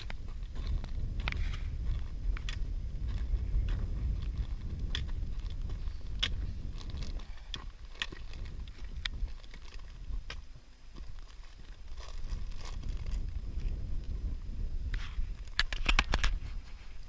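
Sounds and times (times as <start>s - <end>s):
footsteps on rock and gravel: 0.0s - 17.0s
wind rumbling on microphone: 0.0s - 17.0s.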